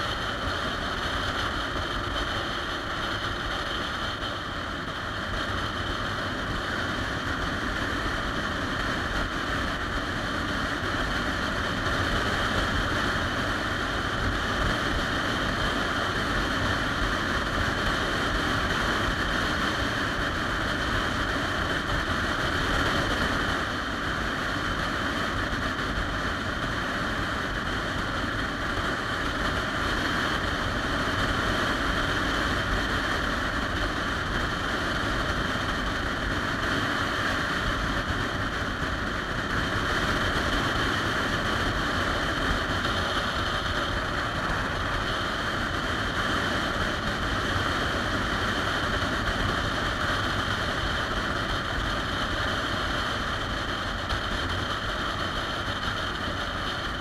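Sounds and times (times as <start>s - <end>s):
motorcycle engine drone: 0.0s - 57.0s
wind rushing over microphone: 0.0s - 57.0s.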